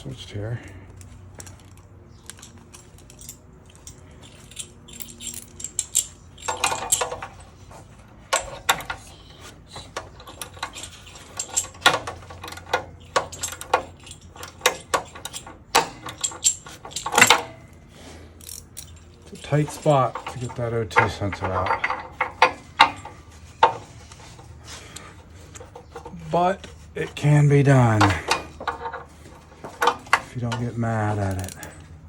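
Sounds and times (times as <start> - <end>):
metal tools clinking: 0.0 - 32.0
metallic clatters: 1.0 - 32.0.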